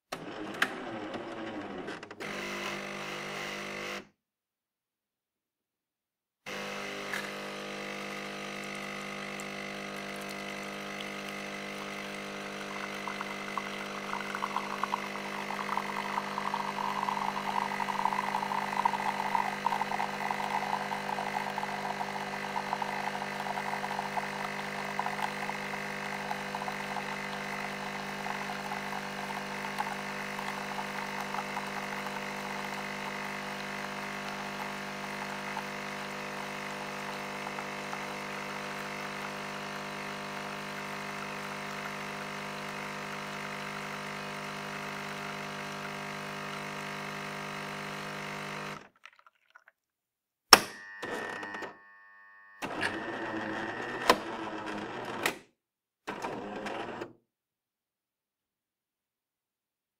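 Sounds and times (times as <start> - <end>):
coffee machine humming: 0.1 - 4.0, 6.5 - 48.8, 50.6 - 51.8, 52.6 - 55.4, 56.1 - 57.1.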